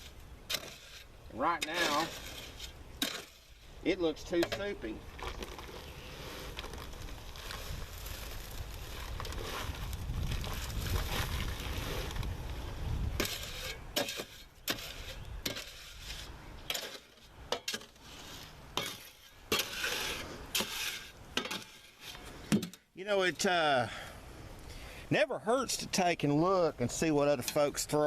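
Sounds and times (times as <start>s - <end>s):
tool scraping and sloshing concrete: 0.0s - 23.5s.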